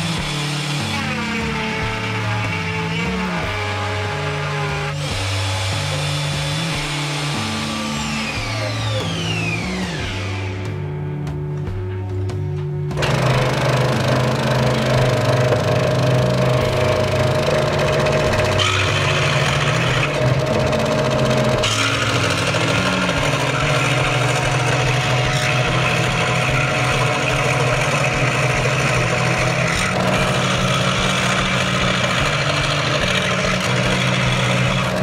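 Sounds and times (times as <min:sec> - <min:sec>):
scroll saw cutting wood: 0:00.0 - 0:10.8, 0:13.0 - 0:35.0.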